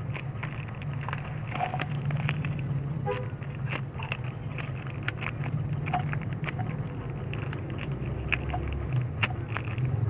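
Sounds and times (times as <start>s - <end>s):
handling clicks and crackles: 0.0s - 10.0s
low background hum: 0.0s - 10.0s.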